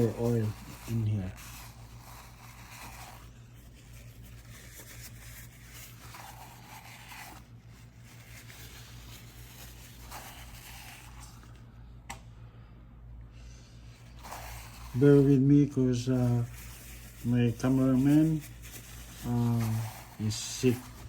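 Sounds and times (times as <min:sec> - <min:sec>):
paper towel rubbing and scraping: 0:00.0 - 0:11.6, 0:14.0 - 0:21.0
steady low hum: 0:00.0 - 0:21.0.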